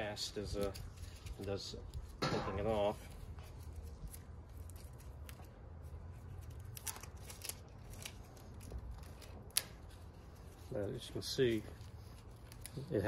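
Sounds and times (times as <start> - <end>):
tape rustling: 0.0 - 13.0.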